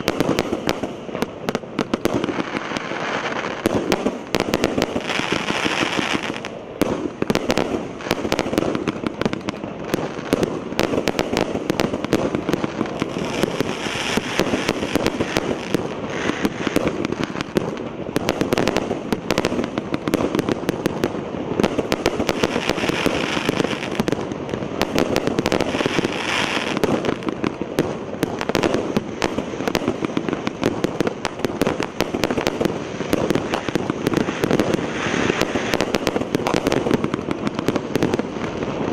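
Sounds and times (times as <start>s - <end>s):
firework crackle: 0.0s - 38.9s.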